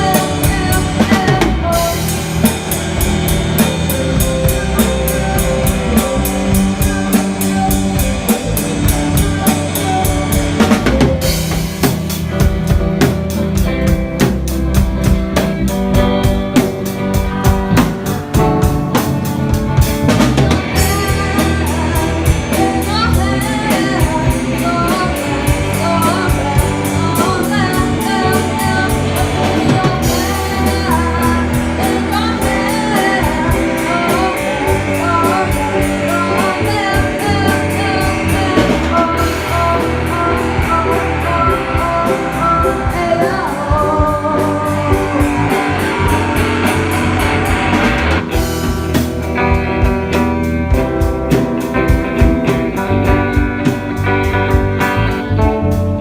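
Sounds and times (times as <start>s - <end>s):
person singing: 0.0s - 51.0s
drum kit beat: 0.0s - 56.0s
live rock band: 0.0s - 56.0s.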